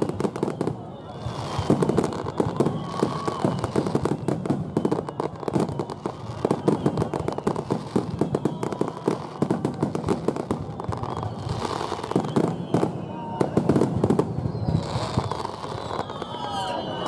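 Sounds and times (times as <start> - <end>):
firework whistle: 0.0 - 17.0.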